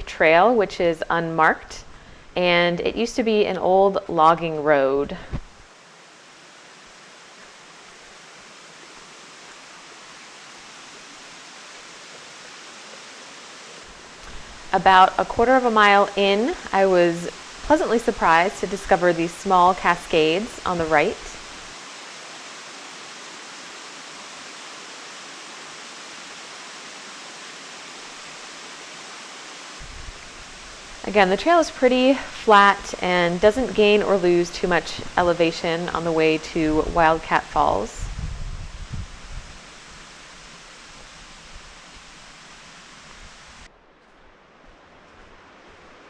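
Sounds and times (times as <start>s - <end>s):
mountain creek rushing: 0.0s - 46.0s.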